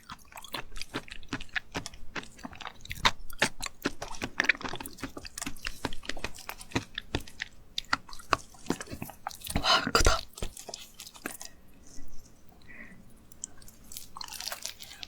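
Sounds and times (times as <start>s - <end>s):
wet chewing with clicks: 0.0s - 15.0s.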